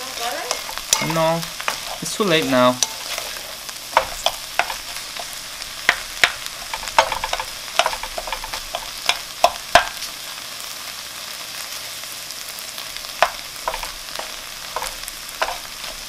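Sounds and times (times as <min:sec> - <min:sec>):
spatula scraping and knocking pan: 0:00.0 - 0:10.1, 0:13.0 - 0:16.0
food sizzling in a frying pan: 0:00.0 - 0:16.0.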